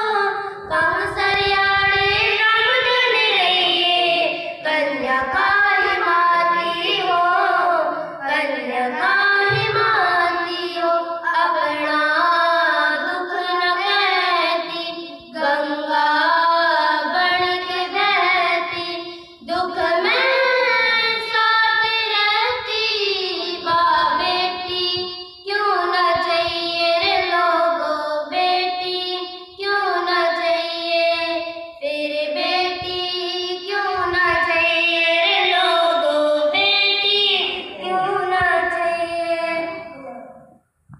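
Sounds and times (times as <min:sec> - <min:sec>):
girls singing over a pa: 0:00.0 - 0:40.4.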